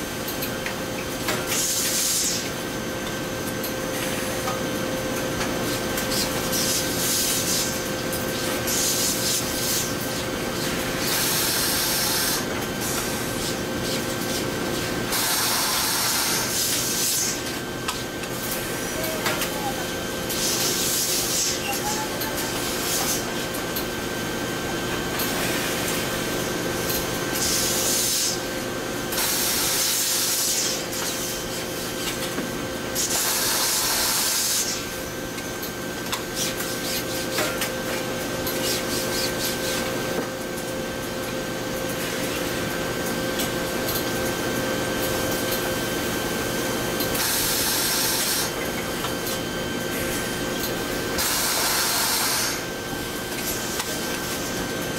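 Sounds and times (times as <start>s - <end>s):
ironing machines humming: 0.0s - 30.1s, 30.8s - 54.9s.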